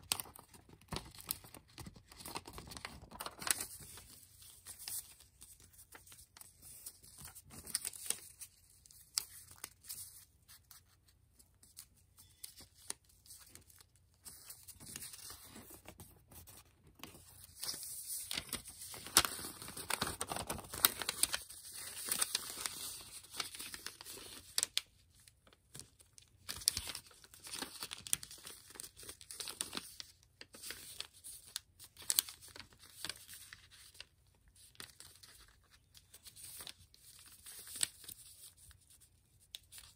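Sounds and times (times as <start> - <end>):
paper rustling and crackling: 0.0 - 39.9.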